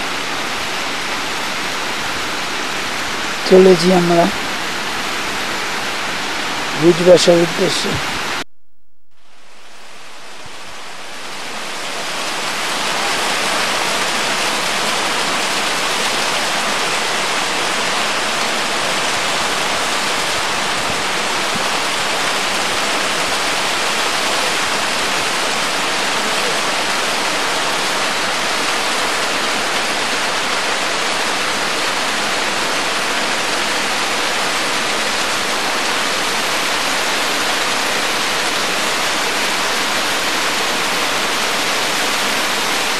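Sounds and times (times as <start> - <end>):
river rushing: 0.0 - 8.4, 9.6 - 42.9.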